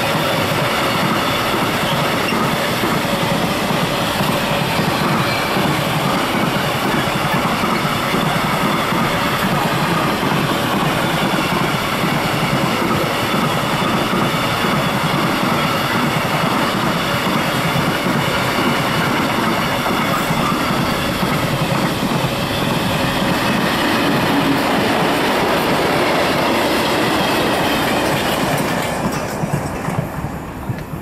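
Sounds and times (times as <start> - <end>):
freight train wheels rolling: 0.0 - 31.0.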